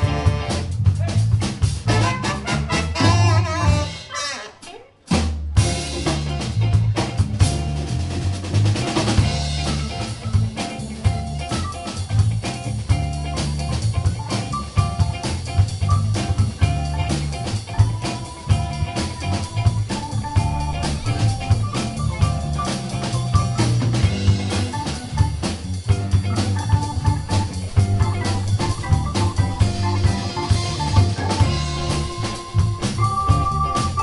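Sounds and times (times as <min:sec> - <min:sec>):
electric guitar lead notes: 0:00.0 - 0:00.8, 0:05.6 - 0:34.0
bass guitar: 0:00.0 - 0:34.0
drum kit beat: 0:00.0 - 0:34.0
live rock band playing: 0:00.0 - 0:34.0.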